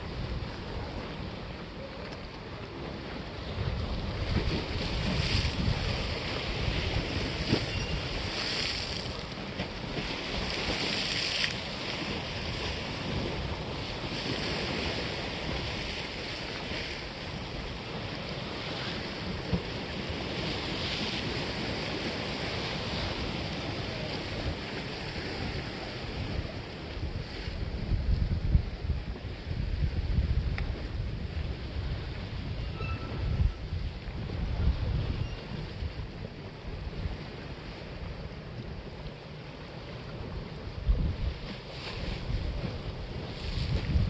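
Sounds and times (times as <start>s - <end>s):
sea waves washing against rocks: 0.0s - 32.6s, 33.3s - 44.0s
wind buffeting microphone: 2.4s - 39.0s, 40.1s - 44.0s.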